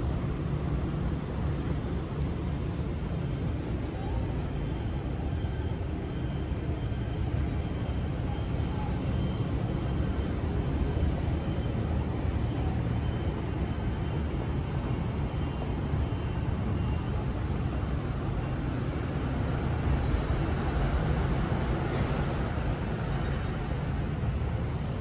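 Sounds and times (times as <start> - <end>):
rumble of road traffic: 0.0 - 25.0.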